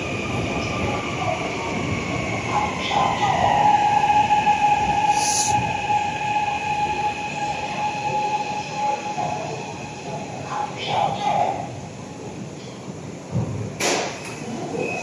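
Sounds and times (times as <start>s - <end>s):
metro train rumbling and whining: 0.0s - 15.0s.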